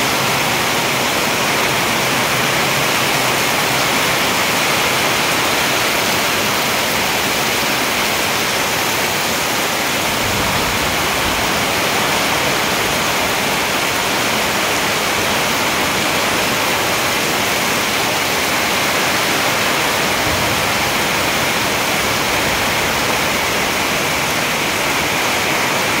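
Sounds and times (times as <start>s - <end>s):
heavy rain on foliage: 0.0s - 26.0s
water streaming off roof: 0.0s - 26.0s.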